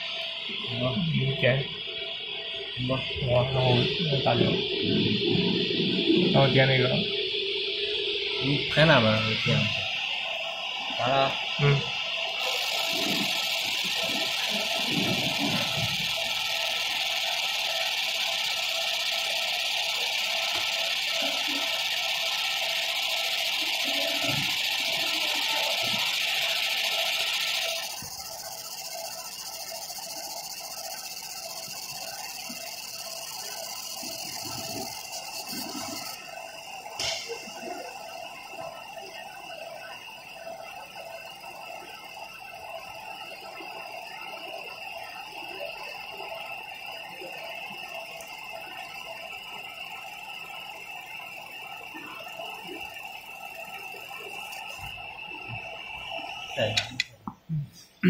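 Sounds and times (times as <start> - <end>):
laser marking machine hum: 0.0 - 57.1.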